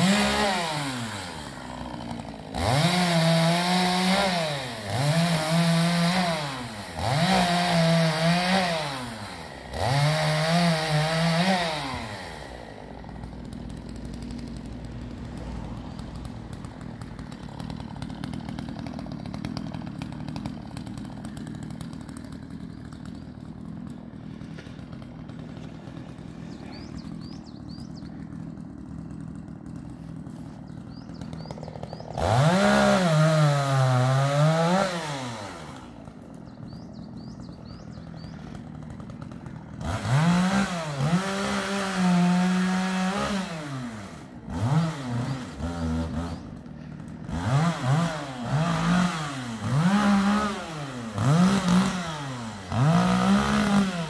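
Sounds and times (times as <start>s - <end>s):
chainsaw revving and idling: 0.0s - 54.0s.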